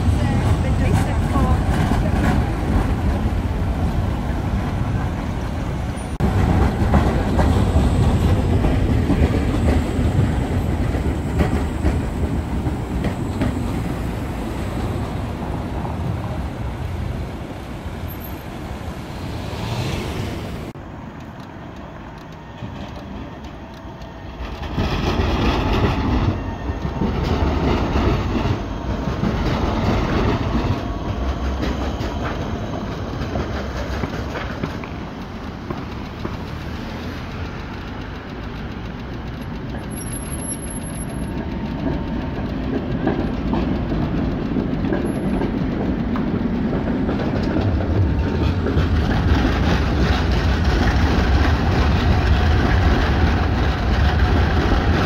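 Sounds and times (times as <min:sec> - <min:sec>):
street traffic: 0:00.0 - 0:55.0
tram wheels rumbling on rails: 0:00.0 - 0:55.0.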